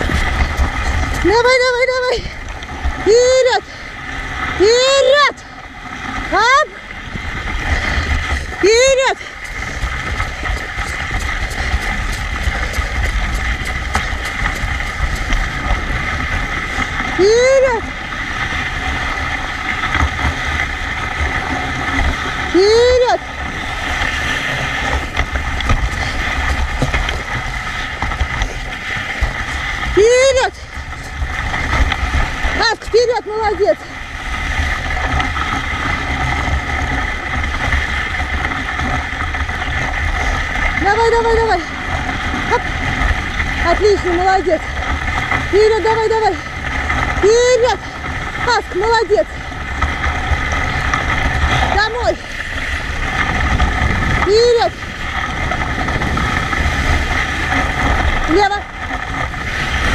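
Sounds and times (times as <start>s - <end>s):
sled rumbling along a trail: 0.0s - 59.9s
wind buffeting microphone: 0.0s - 59.9s.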